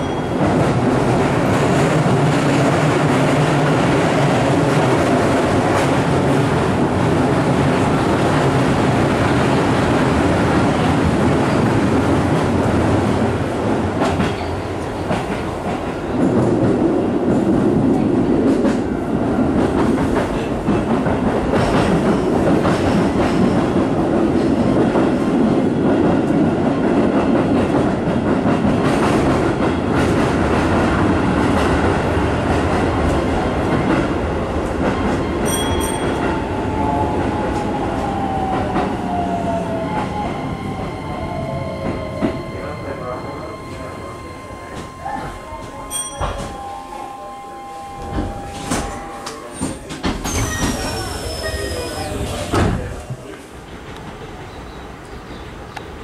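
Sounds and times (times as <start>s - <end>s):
train running rumble: 0.0s - 55.2s.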